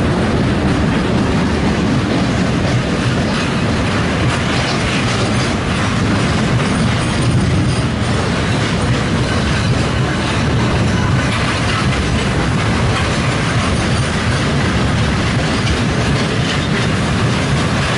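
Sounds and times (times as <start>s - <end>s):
train rumbling: 0.0s - 17.9s
wheels clattering over rails: 0.0s - 17.9s.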